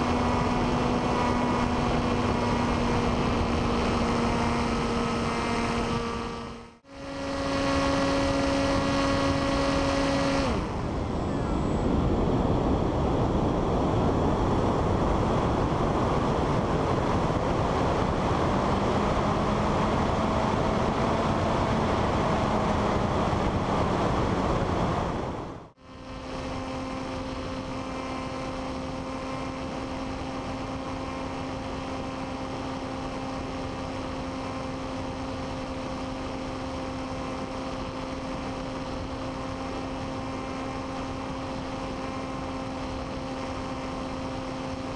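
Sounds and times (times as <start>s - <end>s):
electric motor and propeller drone: 0.0s - 44.9s
wind rushing over microphone: 0.0s - 44.9s.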